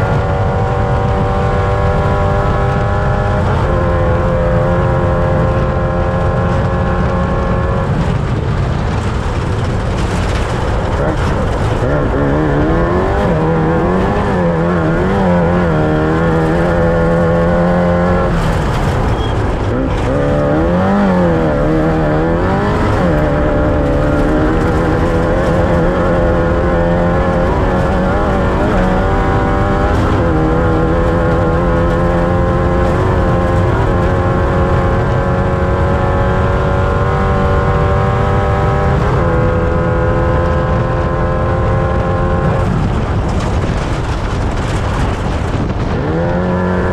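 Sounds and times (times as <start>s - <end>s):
racing engine revving: 0.0s - 46.9s
rough rumbling noise: 0.0s - 46.9s.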